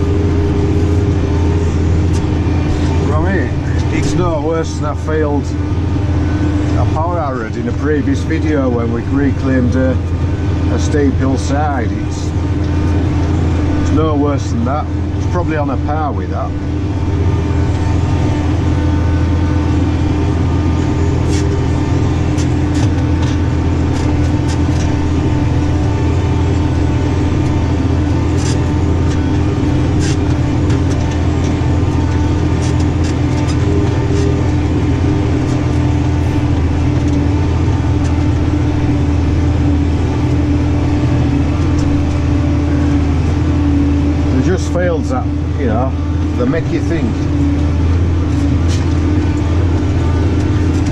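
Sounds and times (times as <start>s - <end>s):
tractor engine drone: 0.0s - 50.9s.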